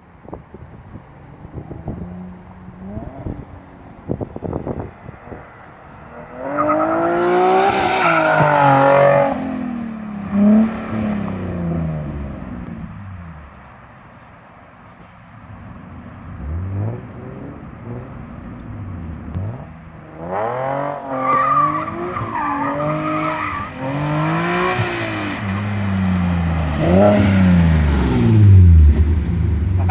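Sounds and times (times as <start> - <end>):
car engine revving hard: 1.5 - 13.5, 15.6 - 29.9.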